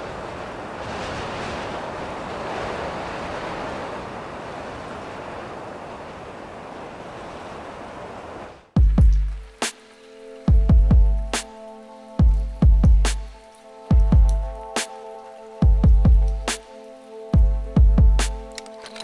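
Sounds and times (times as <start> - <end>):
breaking ocean waves: 0.0 - 17.4.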